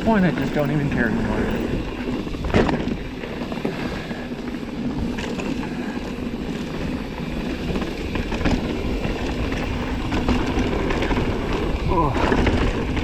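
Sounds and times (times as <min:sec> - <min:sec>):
bike clicks and rattles: 0:00.0 - 0:13.0
tyres rolling on dirt: 0:00.0 - 0:13.0.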